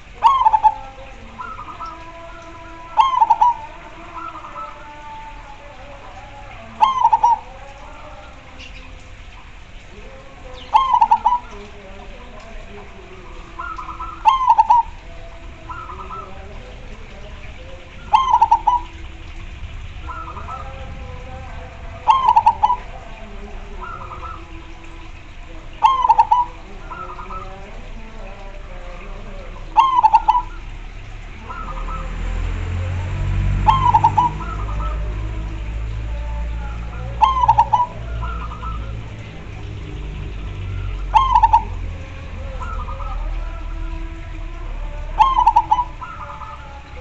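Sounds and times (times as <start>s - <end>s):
doves cooing: 0.0s - 47.0s.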